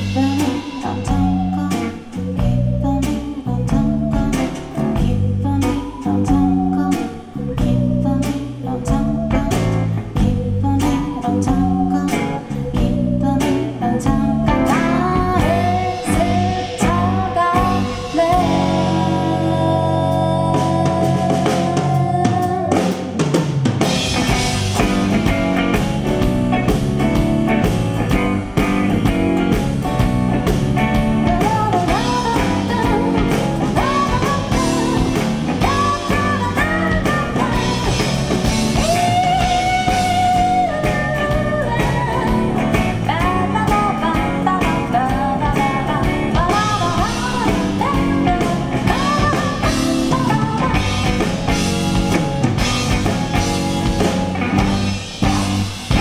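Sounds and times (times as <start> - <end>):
woman singing: 0.0 - 23.5, 30.8 - 52.7
bass: 0.0 - 56.0
drums: 0.0 - 56.0.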